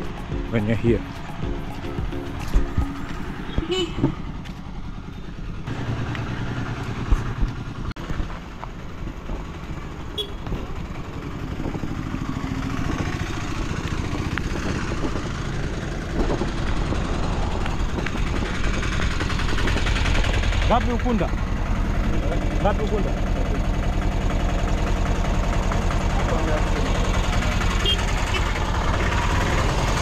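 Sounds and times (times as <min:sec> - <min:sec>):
road noise: 0:00.0 - 0:30.0
tuk-tuk engine running: 0:00.0 - 0:30.0.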